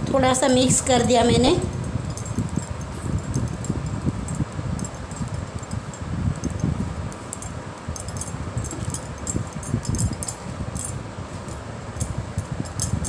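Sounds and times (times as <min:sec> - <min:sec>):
bangles jingling: 0:00.4 - 0:13.0.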